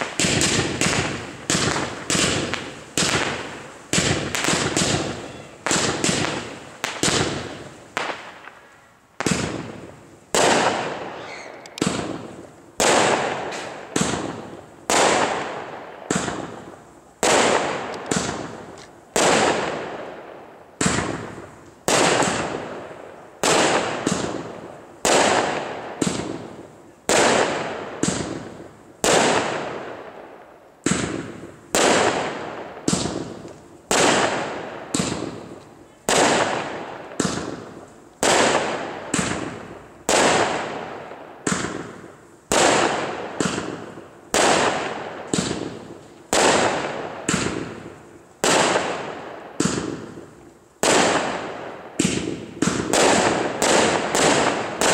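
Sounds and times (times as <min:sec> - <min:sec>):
firework bangs: 0:00.0 - 0:54.9.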